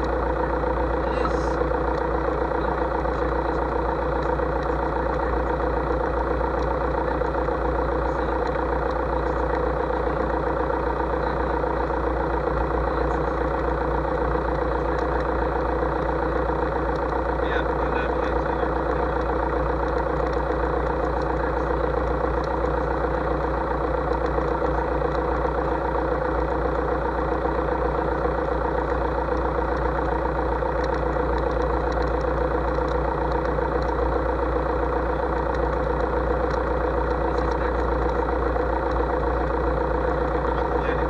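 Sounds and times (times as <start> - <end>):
aircraft piston engine idling: 0.0 - 41.0.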